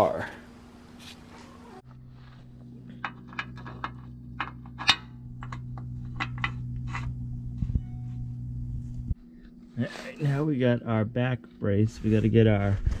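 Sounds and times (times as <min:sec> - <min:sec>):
low hum: 0:01.7 - 0:13.0.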